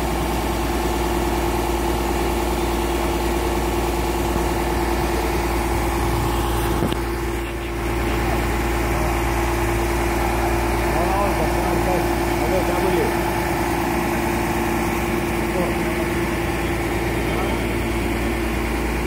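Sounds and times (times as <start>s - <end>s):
crane engine running: 0.0s - 19.0s.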